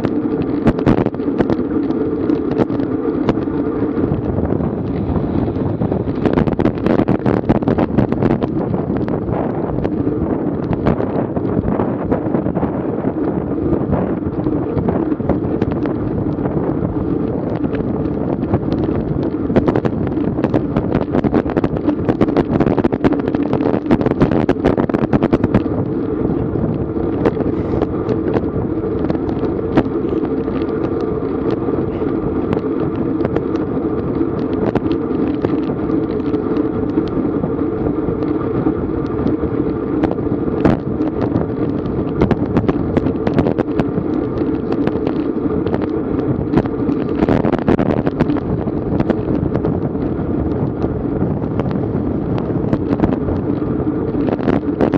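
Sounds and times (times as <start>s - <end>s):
steady hum: 0.0s - 54.9s
wind buffeting microphone: 0.0s - 54.9s.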